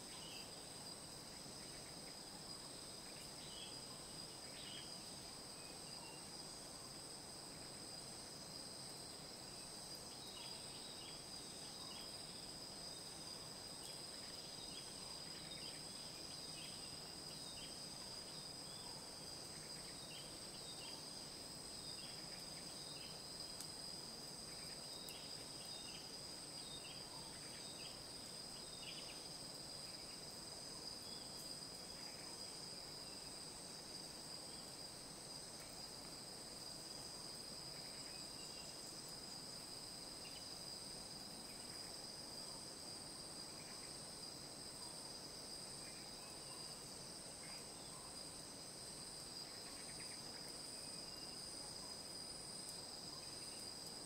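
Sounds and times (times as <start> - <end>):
insect chorus drone: 0.0 - 54.0
soft background hiss: 0.0 - 54.0.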